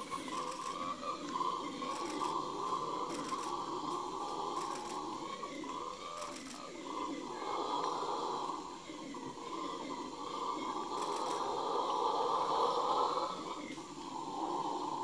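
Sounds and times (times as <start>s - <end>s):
howler monkeys howling: 0.0s - 15.0s.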